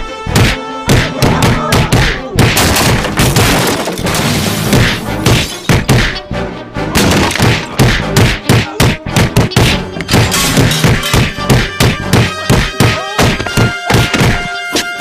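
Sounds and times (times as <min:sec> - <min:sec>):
action music: 0:00.0 - 0:15.0
cartoon punches and crashes: 0:00.3 - 0:06.2, 0:06.9 - 0:15.0.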